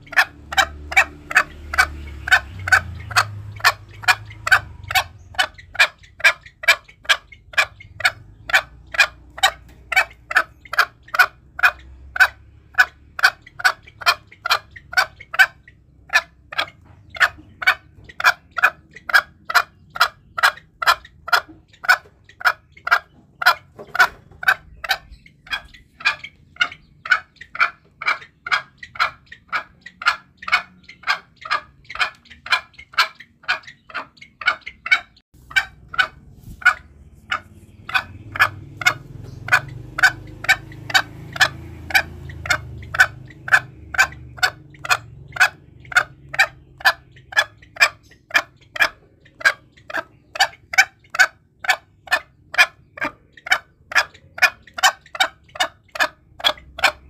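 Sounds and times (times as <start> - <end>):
junglefowl clucking call: 0.0 - 57.0.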